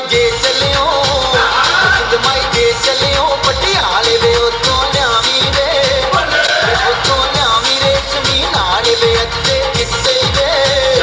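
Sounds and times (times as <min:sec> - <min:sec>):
person singing: 0:00.0 - 0:11.0
fast drum beat: 0:00.1 - 0:11.0.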